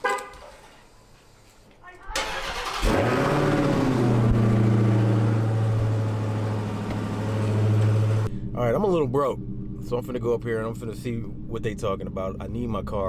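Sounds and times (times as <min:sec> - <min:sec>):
car engine starting and idling: 0:02.1 - 0:13.0.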